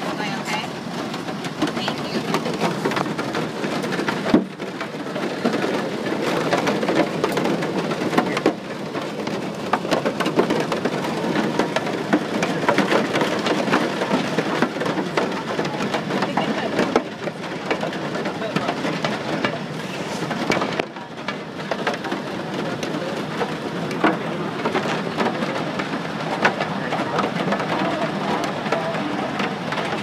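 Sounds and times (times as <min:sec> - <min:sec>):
hail and rain clattering on aircraft: 0:00.0 - 0:30.0.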